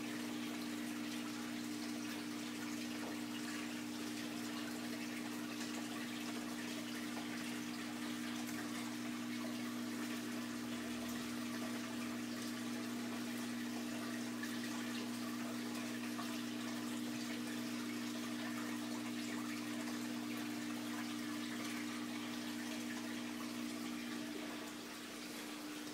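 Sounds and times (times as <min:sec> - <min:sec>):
aquarium pump hum: 0:00.0 - 0:25.9
circulating water washing: 0:00.0 - 0:25.9.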